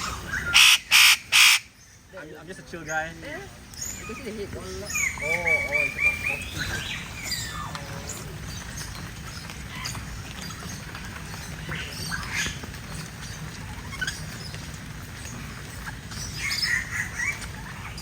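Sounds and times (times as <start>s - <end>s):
birds squawking: 0.0s - 18.0s.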